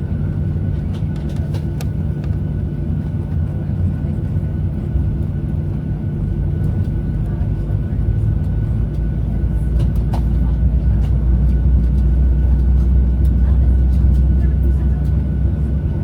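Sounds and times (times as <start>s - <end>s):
aircraft cabin engine rumble: 0.0s - 16.0s
constant engine whine: 0.0s - 16.0s.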